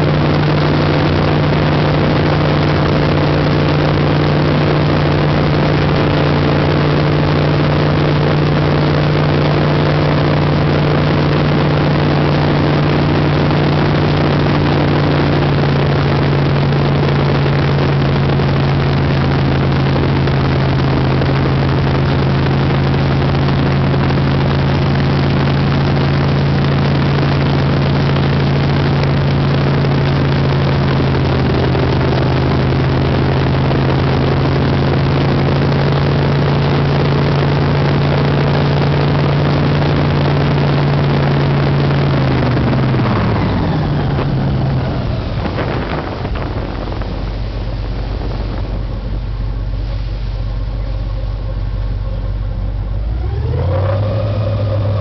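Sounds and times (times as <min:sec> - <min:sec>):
airboat engine and propeller: 0:00.0 - 0:55.0
wind and water rushing: 0:00.0 - 0:55.0.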